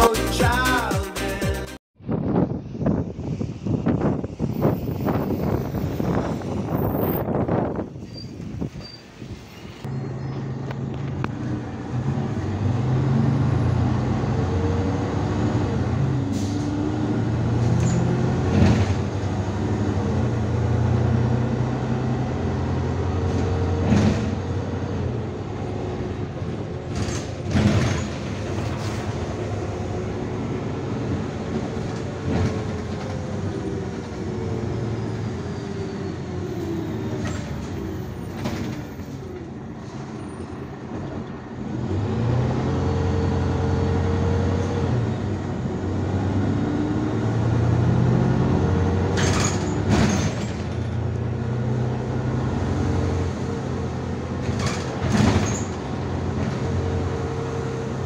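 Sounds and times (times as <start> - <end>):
bus engine drone: 2.0 - 58.0.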